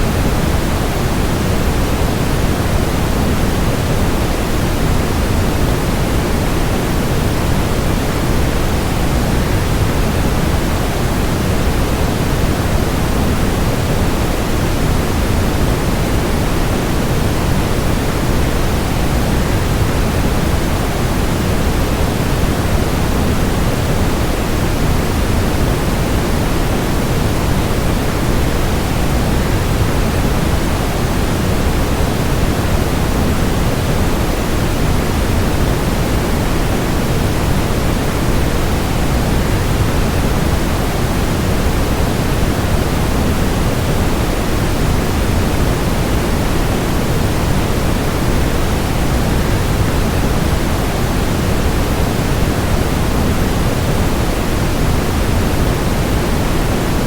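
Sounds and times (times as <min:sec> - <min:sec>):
white noise: 0:00.0 - 0:57.0.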